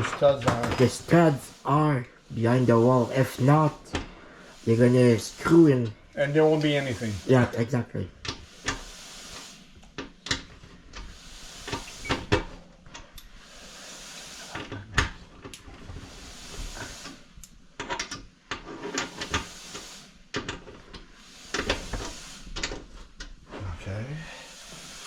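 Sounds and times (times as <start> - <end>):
hissing noise: 0.0 - 18.1, 18.8 - 25.0.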